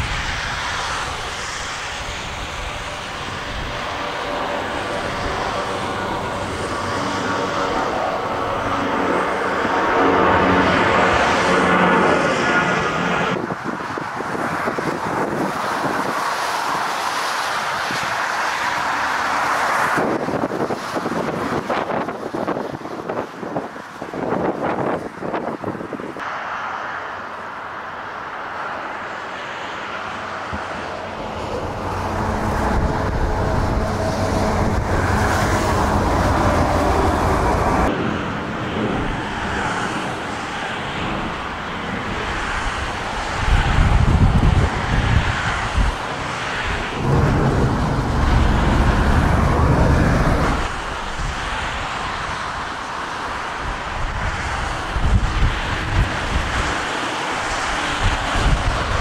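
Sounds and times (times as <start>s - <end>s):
jet engines whining: 0.0s - 23.3s, 28.9s - 59.0s
wind gusts rumbling on microphone: 0.0s - 26.4s, 28.4s - 59.0s.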